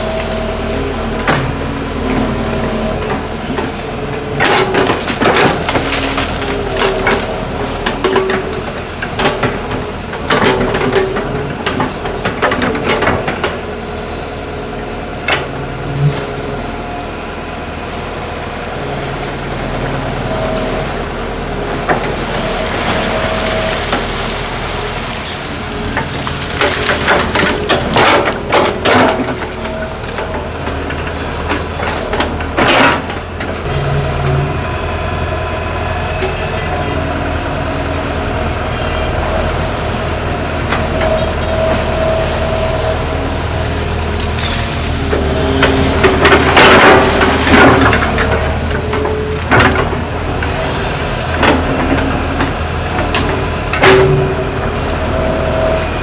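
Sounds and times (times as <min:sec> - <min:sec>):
excavator engine hum: 0:00.0 - 0:56.0.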